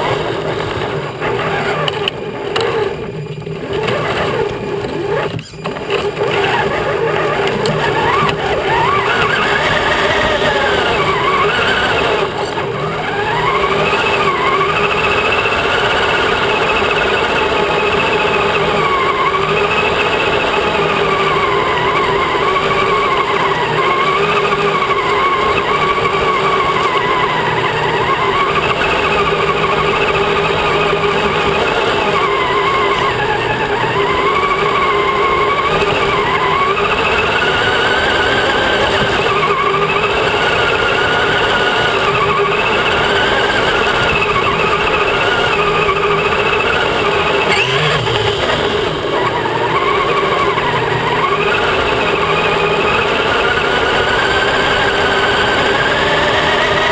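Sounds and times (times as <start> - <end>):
electric motor and gears whining: 0.0 - 56.9
tyre and chassis rumble: 0.0 - 56.9.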